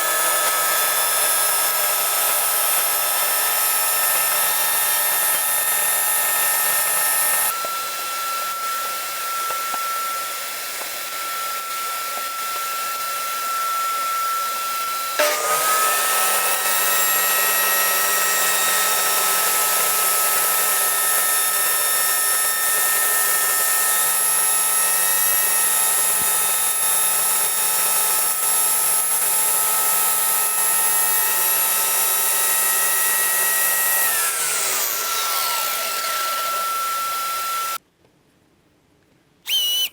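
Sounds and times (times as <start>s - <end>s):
power tool motor whining: 0.0s - 37.8s, 39.5s - 39.9s.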